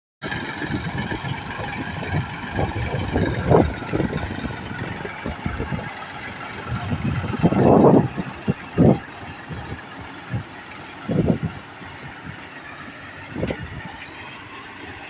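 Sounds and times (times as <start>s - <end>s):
tractor and threshing machine running: 0.2s - 15.0s.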